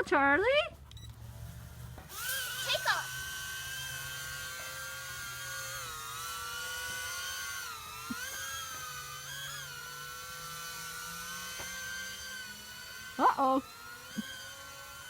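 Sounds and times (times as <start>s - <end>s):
toy drone propeller whine: 0.4s - 15.0s.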